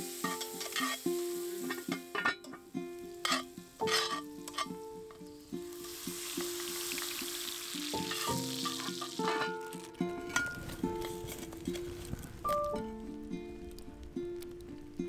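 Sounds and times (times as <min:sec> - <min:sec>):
background music: 0:00.0 - 0:15.0
bacon sizzling: 0:00.0 - 0:15.0.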